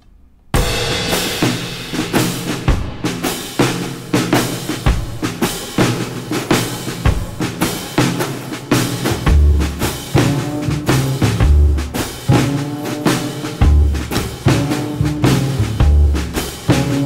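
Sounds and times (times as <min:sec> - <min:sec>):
music with drum beat: 0:00.6 - 0:17.0.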